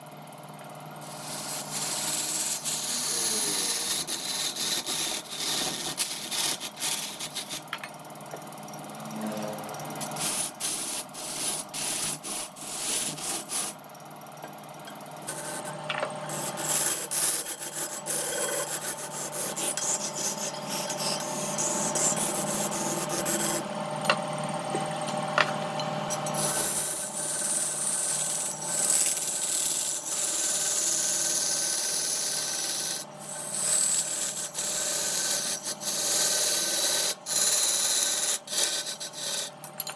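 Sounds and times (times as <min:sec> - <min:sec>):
tool scraping wood on lathe: 0:01.0 - 0:07.7, 0:10.0 - 0:13.8, 0:15.2 - 0:23.6, 0:26.3 - 0:39.6.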